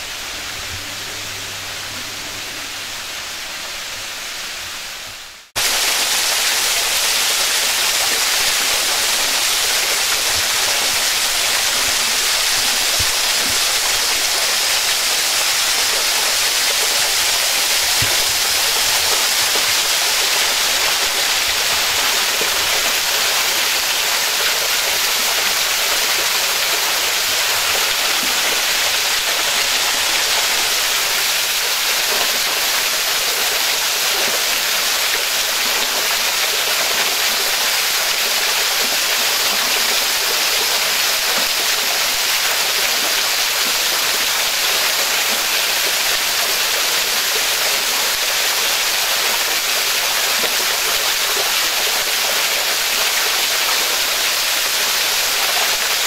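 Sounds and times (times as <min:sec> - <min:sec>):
waterfall splashing into pool: 0:05.4 - 0:56.0.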